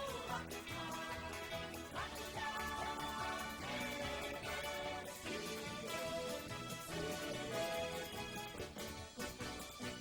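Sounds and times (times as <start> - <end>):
band playing instrumental music: 0.0 - 10.0.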